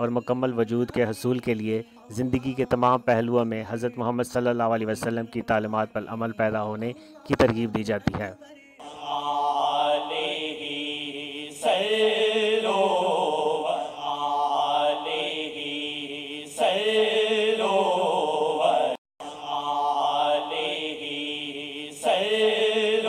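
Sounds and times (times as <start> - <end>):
chanted singing voice: 0.0 - 23.0.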